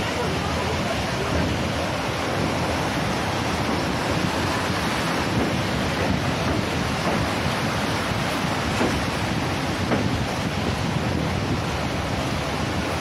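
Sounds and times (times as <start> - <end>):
churning sea water rushing: 0.0 - 13.0
wind buffeting microphone: 0.0 - 13.0.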